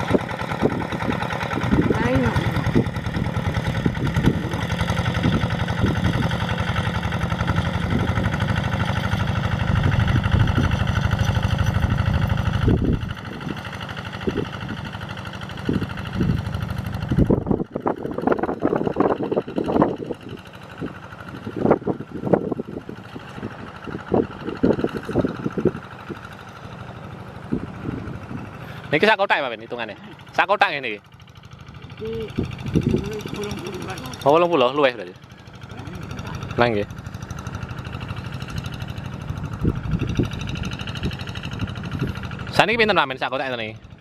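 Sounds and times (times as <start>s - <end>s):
diesel tractor engine running: 0.0s - 44.0s.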